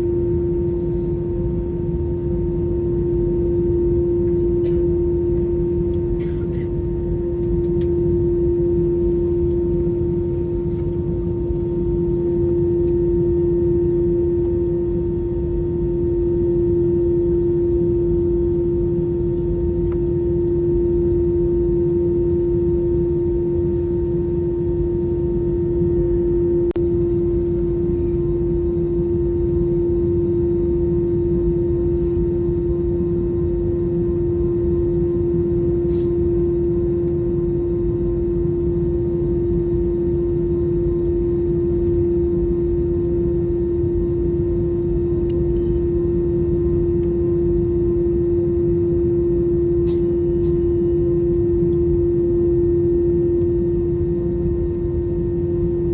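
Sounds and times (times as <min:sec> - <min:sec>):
aircraft cabin engine hum: 0:00.0 - 0:55.9.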